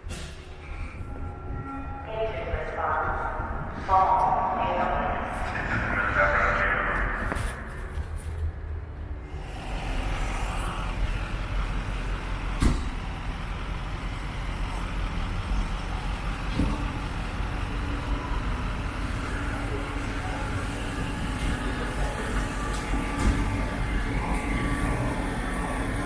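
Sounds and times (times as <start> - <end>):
fire engine rumbling: 0.0 - 26.0.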